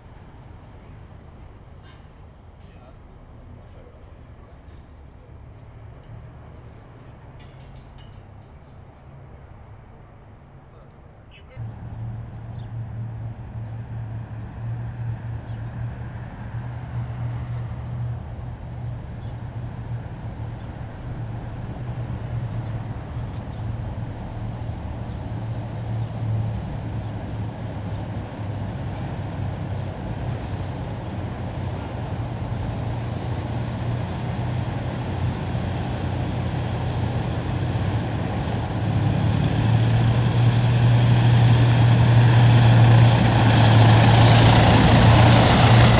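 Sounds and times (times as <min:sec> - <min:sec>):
heavy diesel engines droning: 0:00.0 - 0:45.9
road and tyre noise: 0:00.0 - 0:45.9.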